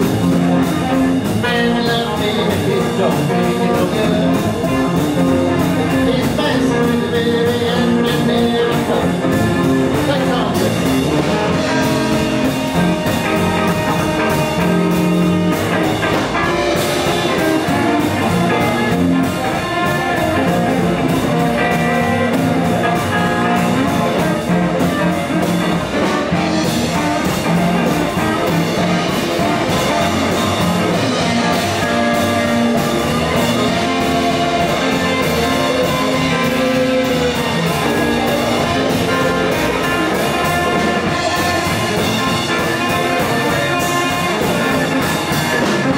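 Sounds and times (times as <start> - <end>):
drums: 0.0 - 45.9
electric guitar: 0.0 - 45.9
upright double bass: 0.0 - 45.9.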